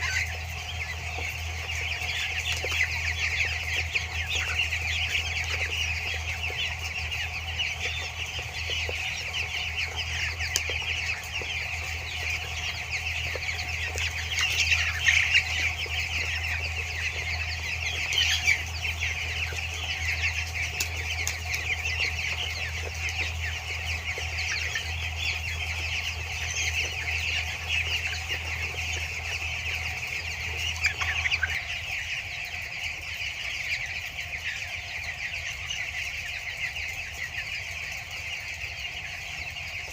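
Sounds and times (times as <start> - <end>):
chicks cheeping: 0.0 - 39.9
steady low hum: 0.0 - 39.9.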